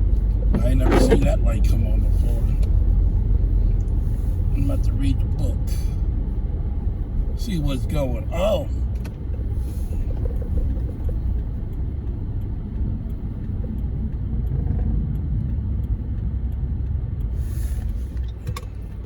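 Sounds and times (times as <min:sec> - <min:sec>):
car interior rumble: 0:00.0 - 0:19.0.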